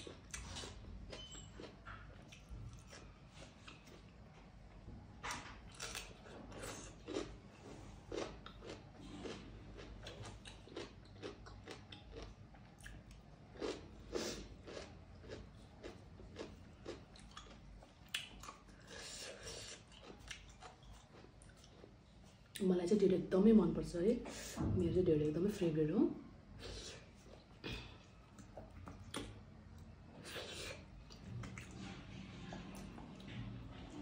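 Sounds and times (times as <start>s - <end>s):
person chewing crunchy food: 0.0s - 4.2s, 5.7s - 22.4s, 26.6s - 34.0s.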